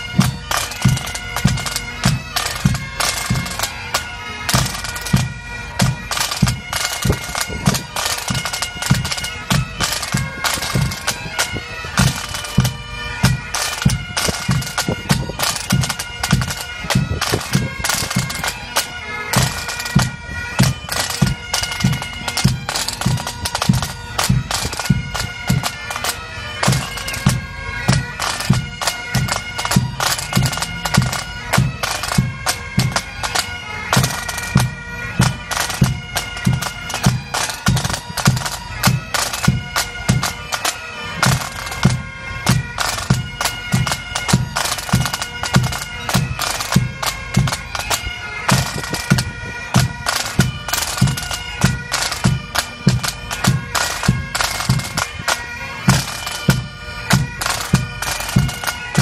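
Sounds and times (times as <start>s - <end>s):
bagpipes playing a tune: 0.0s - 59.0s
snare and bass drums beating: 0.0s - 59.0s.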